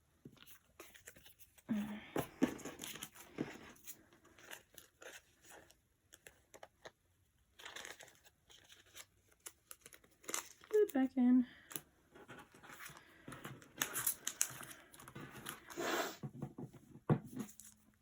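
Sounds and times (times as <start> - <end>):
paper crinkling and rustling: 0.3 - 1.7, 2.3 - 15.8, 17.3 - 18.0.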